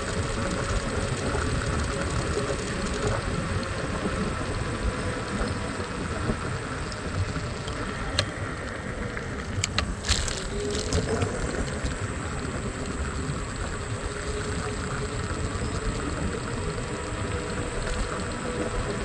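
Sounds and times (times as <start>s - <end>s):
low road rumble: 0.0s - 19.0s
scooter engine hum: 0.0s - 19.0s.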